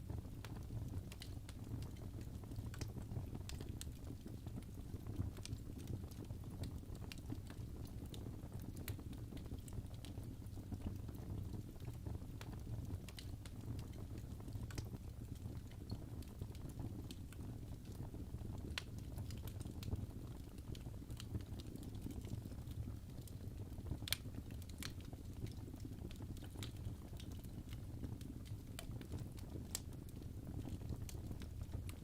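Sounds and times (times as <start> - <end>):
fire crackles and pops: 0.0 - 32.0
rumble of flames: 0.0 - 32.0.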